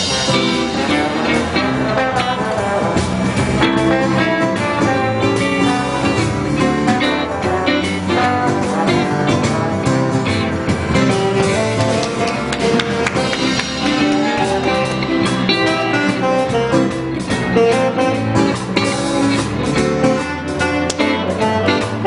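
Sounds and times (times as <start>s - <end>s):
guitar plucked and strummed: 0.0s - 22.0s.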